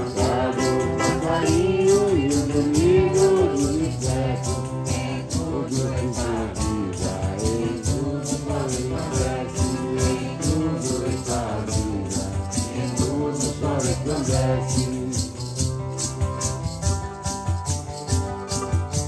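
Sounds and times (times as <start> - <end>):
group singing a hymn: 0.0 - 15.4
maraca shaking: 0.0 - 19.0.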